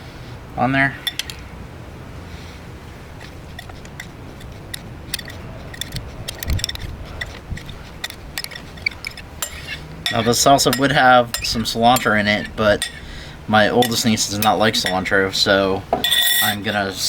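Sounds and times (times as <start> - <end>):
utensil clinking against bowls: 3.2 - 17.0.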